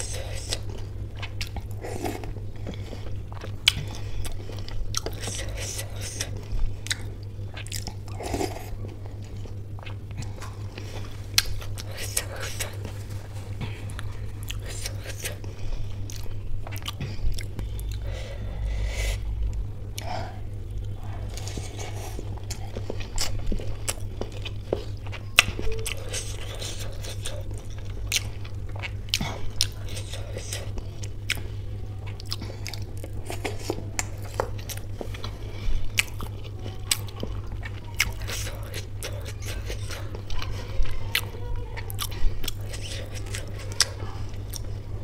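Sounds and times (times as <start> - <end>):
wet chewing with mouth smacks: 0.0 - 18.1, 20.8 - 44.9
soft crunch of pastry: 0.0 - 45.0
steady low hum: 0.0 - 45.0.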